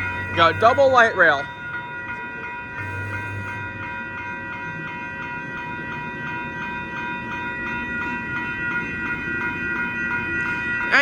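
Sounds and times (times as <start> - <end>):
crossing bells ringing: 0.0 - 11.0
light rail train rumbling past: 0.0 - 11.0.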